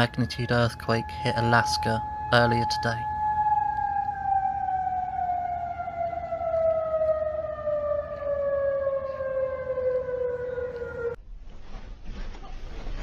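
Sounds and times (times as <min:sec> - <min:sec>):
warning siren wailing: 0:00.0 - 0:11.2.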